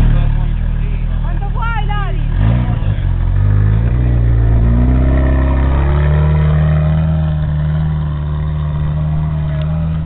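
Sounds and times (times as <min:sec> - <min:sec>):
buggy engine revving: 0:00.0 - 0:10.0.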